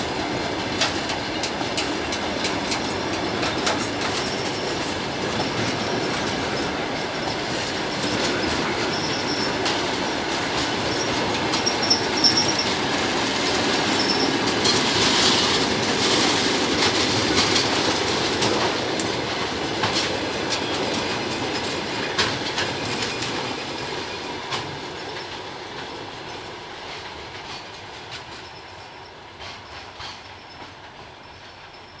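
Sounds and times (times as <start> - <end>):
wheels clacking over rail joints: 0.0 - 31.9
train wheels rumbling on rails: 0.0 - 32.0.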